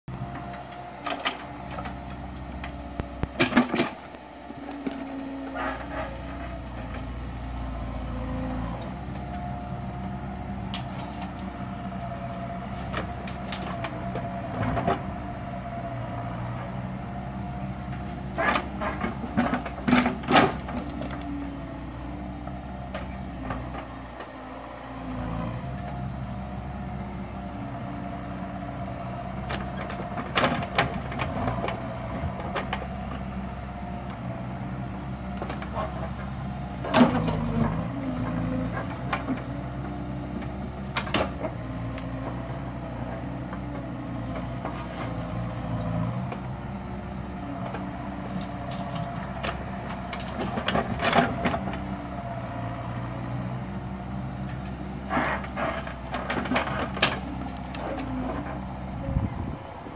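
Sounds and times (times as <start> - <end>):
excavator diesel engine running: 0.1 - 59.9.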